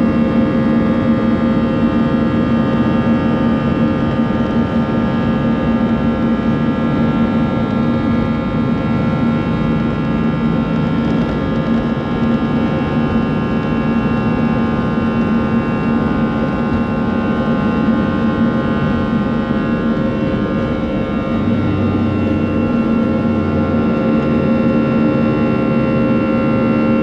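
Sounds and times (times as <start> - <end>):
jet engines at takeoff thrust: 0.0 - 27.0
low hum: 0.0 - 27.0
wheel and airflow rumble: 1.1 - 27.0.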